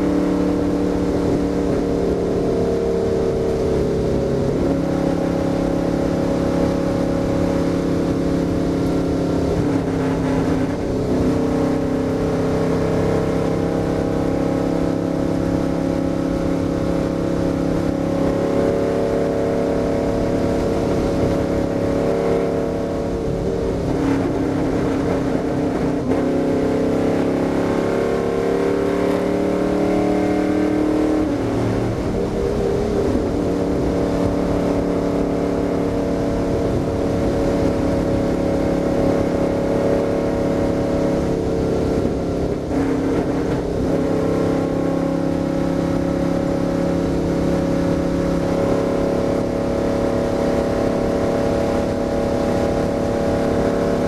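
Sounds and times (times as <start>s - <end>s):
race car engine running hard: 0.0s - 54.0s.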